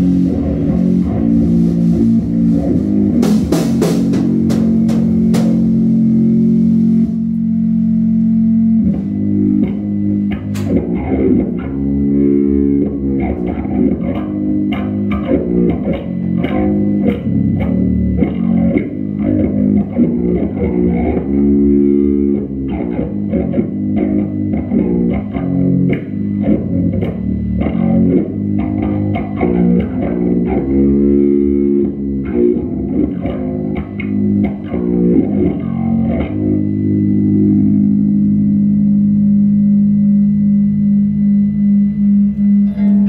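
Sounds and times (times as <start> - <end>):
electric guitar blues riff: 0.0 - 39.2
bass guitar: 0.0 - 43.0.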